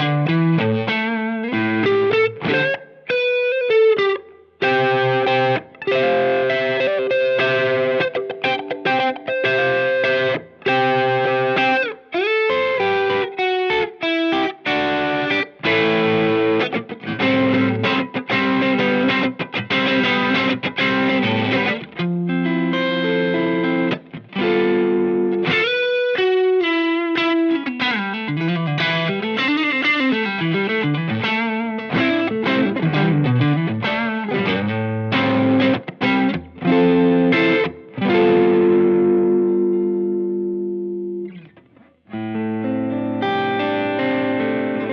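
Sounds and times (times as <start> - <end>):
overdriven electric guitar: 0.0 - 44.9.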